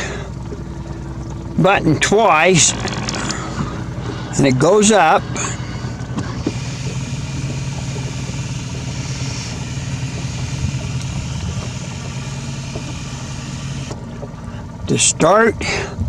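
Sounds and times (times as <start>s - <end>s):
electric motor mechanism running: 1.3s - 14.5s.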